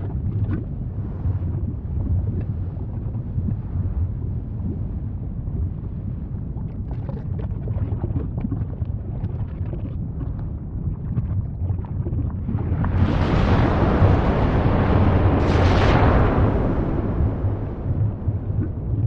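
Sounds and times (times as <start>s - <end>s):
crackles and pops: 0.0s - 5.8s, 6.6s - 19.0s
volcano rumbling: 0.0s - 19.0s.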